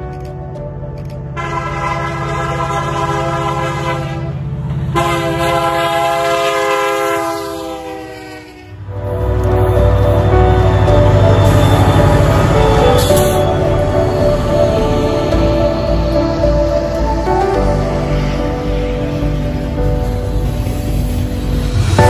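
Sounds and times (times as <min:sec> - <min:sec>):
rumble of passing train: 0:00.0 - 0:22.0
diesel locomotive horn: 0:01.3 - 0:21.8.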